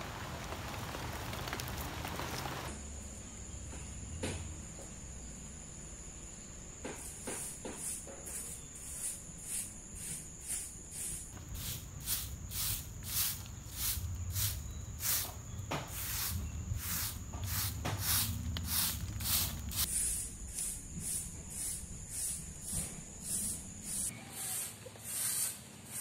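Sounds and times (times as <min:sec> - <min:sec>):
broom sweeping wet dirt: 0:00.0 - 0:02.7, 0:07.0 - 0:26.0.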